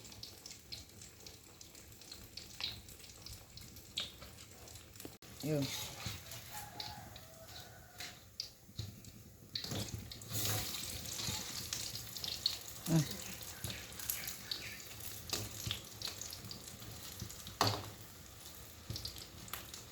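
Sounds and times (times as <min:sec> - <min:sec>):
food sizzling in hot oil: 0:00.0 - 0:19.9.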